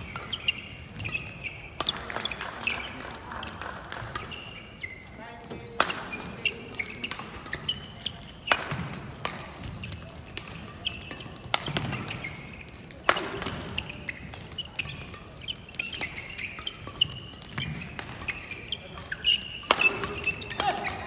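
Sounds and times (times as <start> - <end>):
rackets hitting shuttlecock: 0.0 - 21.0
shoes squeaking on court: 0.0 - 21.0.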